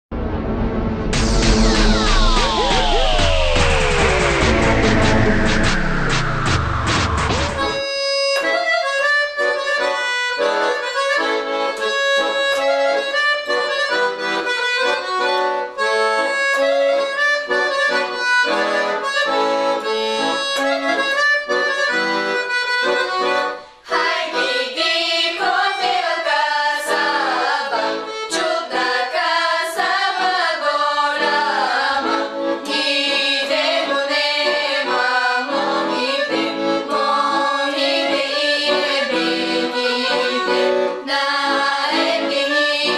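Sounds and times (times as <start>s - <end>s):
folk music on accordion: 7.0s - 42.9s.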